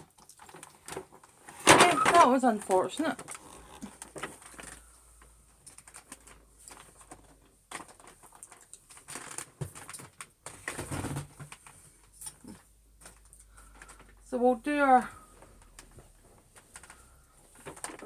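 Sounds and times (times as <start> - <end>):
objects clicking and knocking: 0.0 - 14.2, 15.5 - 18.0.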